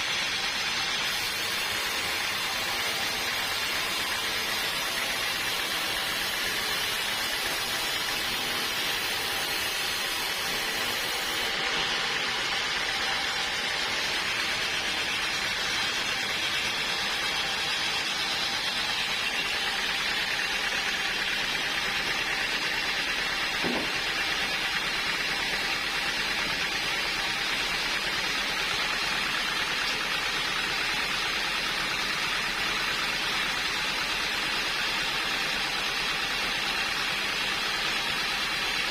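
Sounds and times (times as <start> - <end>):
sawmill machinery whirring: 0.0 - 38.9.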